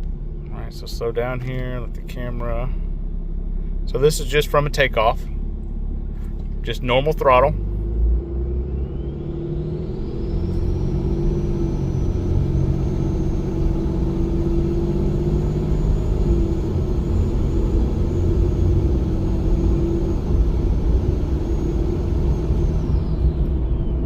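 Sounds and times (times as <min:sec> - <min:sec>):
diesel engine rumble: 0:00.0 - 0:24.0.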